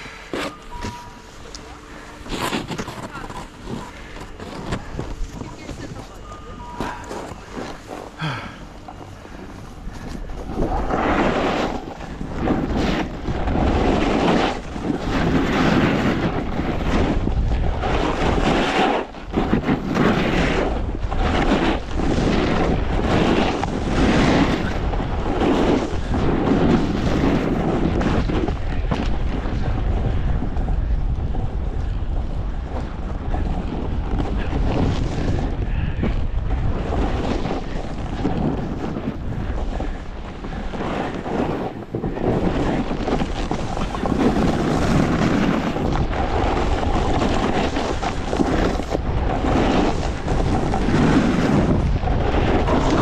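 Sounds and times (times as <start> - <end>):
snowboard edge scraping snow: 0.0 - 1.4, 2.0 - 6.2, 9.6 - 30.0, 32.8 - 53.0
wind buffeting microphone: 0.0 - 53.0.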